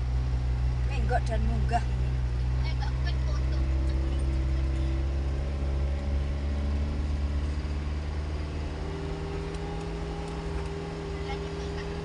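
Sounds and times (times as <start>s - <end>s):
car engine droning uphill: 0.0s - 12.0s.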